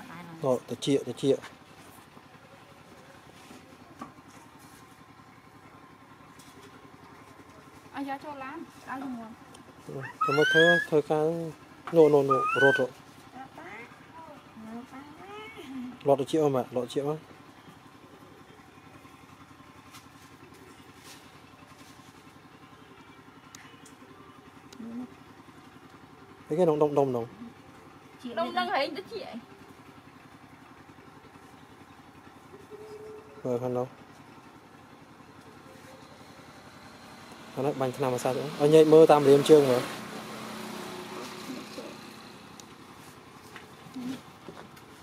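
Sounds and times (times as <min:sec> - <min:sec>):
engine idling faintly: 0:00.0 - 0:45.0.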